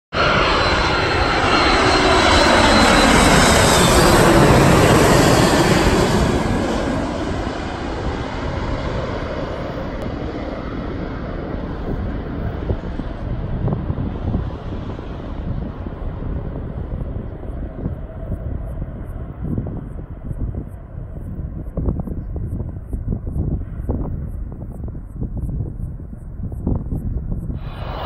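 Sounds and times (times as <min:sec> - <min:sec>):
jet airliner passing overhead: 0:00.1 - 0:28.0.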